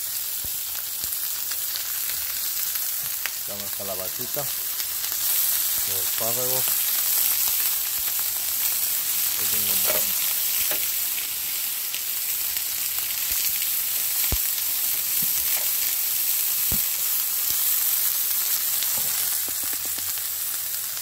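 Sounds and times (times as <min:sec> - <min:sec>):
vegetables sizzling in a pan: 0:00.0 - 0:21.0.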